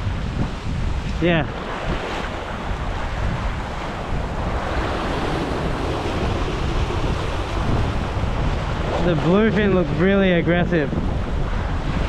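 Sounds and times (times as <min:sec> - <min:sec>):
ocean surf breaking over rocks: 0:00.0 - 0:12.0
wind buffeting microphone: 0:00.0 - 0:12.0.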